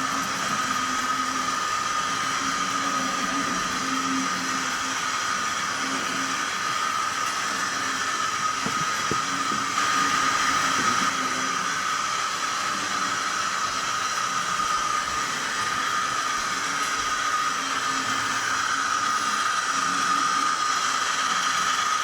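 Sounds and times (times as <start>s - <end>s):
model locomotive engine sound: 0.0s - 22.0s.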